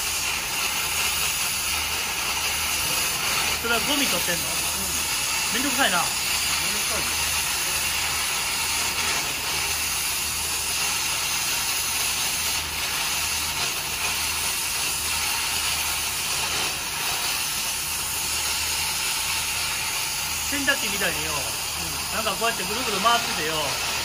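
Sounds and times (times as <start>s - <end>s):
pot of water boiling: 0.0s - 24.0s.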